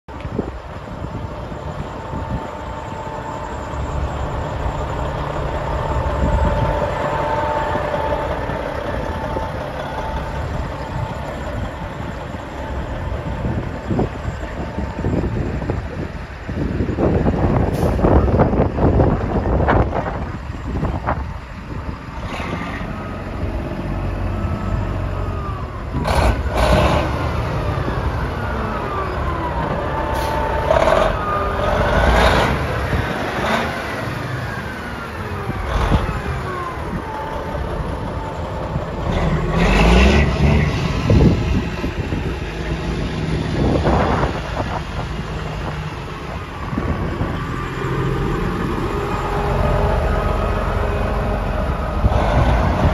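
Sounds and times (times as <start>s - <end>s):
diesel engine idling: 0.1s - 52.9s.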